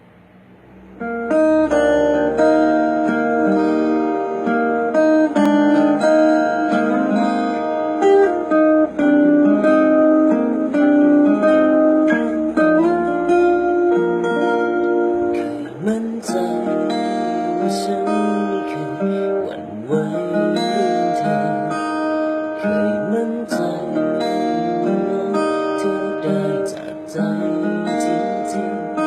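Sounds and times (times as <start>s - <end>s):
guitar playing chords: 0.0s - 29.0s.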